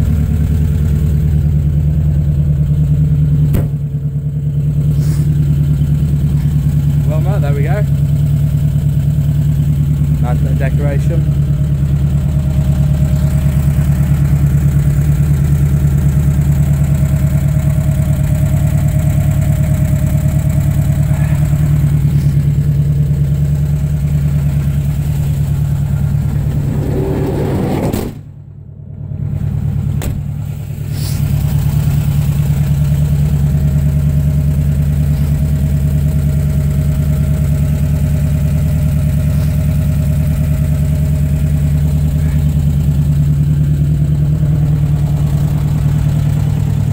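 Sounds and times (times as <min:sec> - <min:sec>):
air-cooled engine idling: 0:00.0 - 0:46.9.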